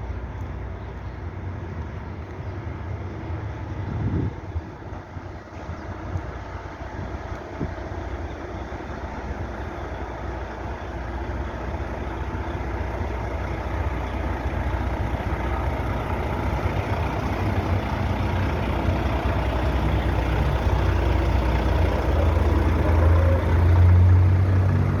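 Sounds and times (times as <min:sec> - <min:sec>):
diesel truck engine humming: 0:00.0 - 0:25.0.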